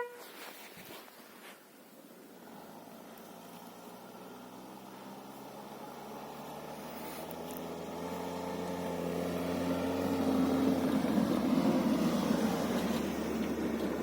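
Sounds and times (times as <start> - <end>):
engine droning: 2.0 - 14.0.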